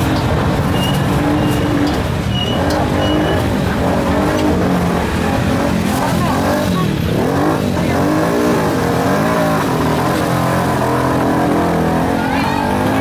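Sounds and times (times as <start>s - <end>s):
motorbike engines revving: 0.0s - 13.0s
street noise: 0.0s - 13.0s.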